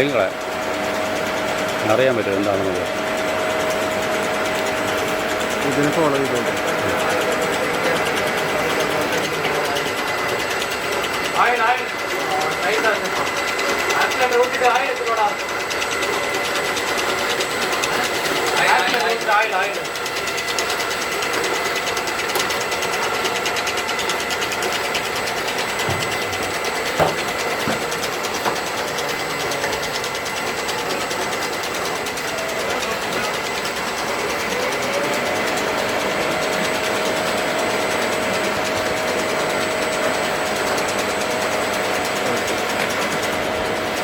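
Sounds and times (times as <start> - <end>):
motor whine: 0.0 - 44.0
printer motors ticking: 0.0 - 44.0.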